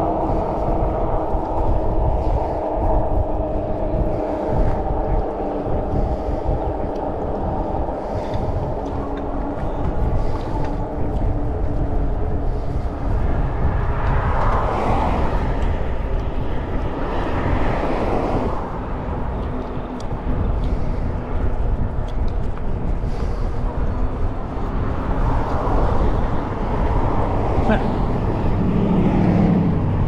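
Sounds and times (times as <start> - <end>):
steady low rumble: 0.0 - 30.0
vehicles passing: 0.0 - 30.0.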